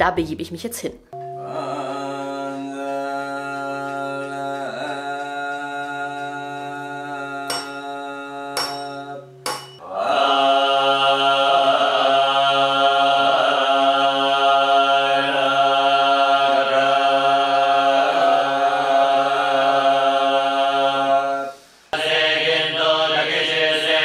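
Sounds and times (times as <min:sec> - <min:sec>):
monks chanting: 0:01.4 - 0:24.0.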